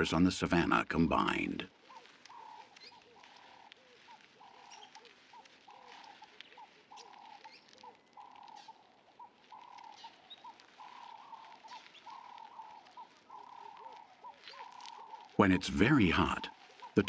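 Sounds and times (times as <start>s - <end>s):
faint bird calls: 0.0s - 17.0s.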